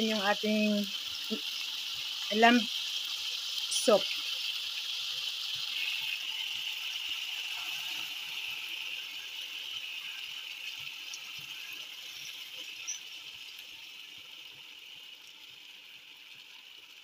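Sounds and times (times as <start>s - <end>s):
broth pouring into a pot: 0.0s - 17.0s.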